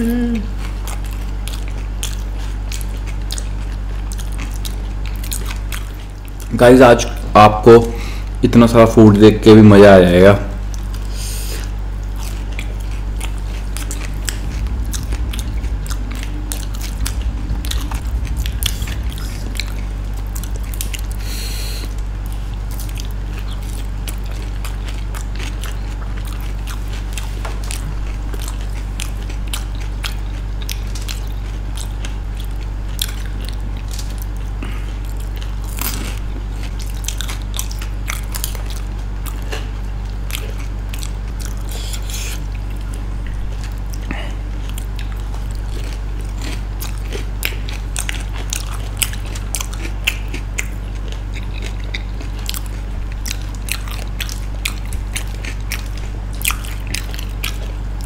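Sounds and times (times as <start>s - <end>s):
people chewing crunchy food: 0.0s - 8.9s, 10.5s - 58.0s
low steady hum: 0.0s - 58.0s.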